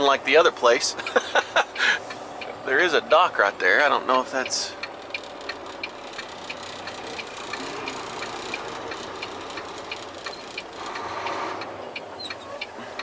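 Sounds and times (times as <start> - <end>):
truck cab hum: 0.0 - 13.0.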